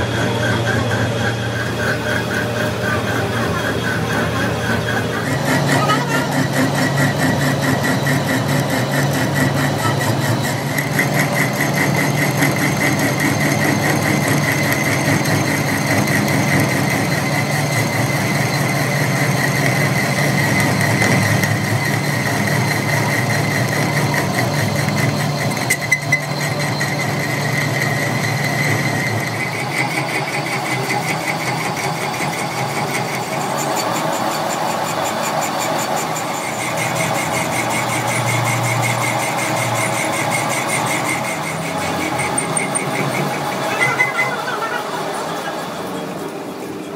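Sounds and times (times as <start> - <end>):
metal lathe cutting whine: 0.0 - 46.9.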